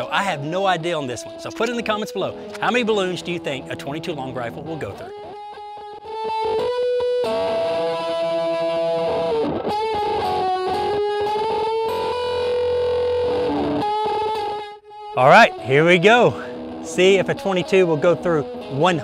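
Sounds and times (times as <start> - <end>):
distorted electric guitar melody: 0.0 - 19.0.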